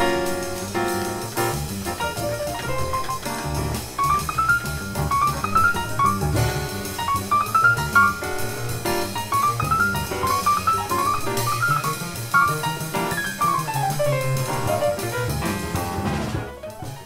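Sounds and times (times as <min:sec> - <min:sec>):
drum kit cymbals: 0:00.0 - 0:17.0
grand piano runs: 0:00.0 - 0:17.0
upright double bass: 0:00.0 - 0:17.0.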